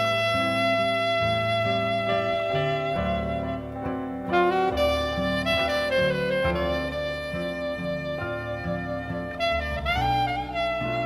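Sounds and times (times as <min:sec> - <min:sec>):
saxophone long note: 0:00.0 - 0:11.0.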